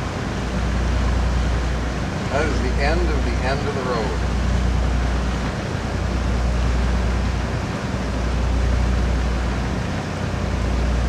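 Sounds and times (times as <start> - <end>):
motor boat engine droning: 0.0 - 11.0
wind and water rushing: 0.0 - 11.0.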